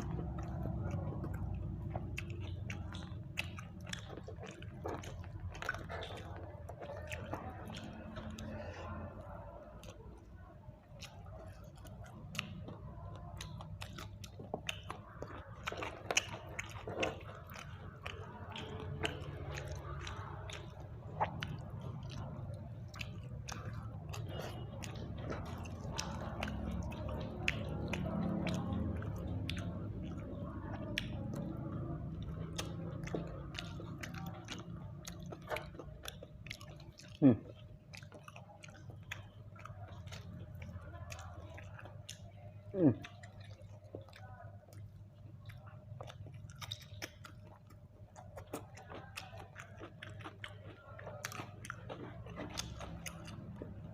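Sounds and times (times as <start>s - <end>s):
mouth clicks and smacks: 0.0s - 53.9s
person chewing food: 0.0s - 53.9s.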